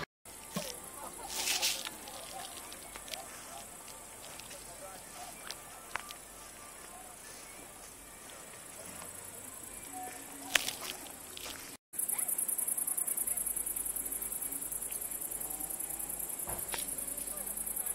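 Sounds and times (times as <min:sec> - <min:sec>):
crickets chirring: 0:00.3 - 0:17.9.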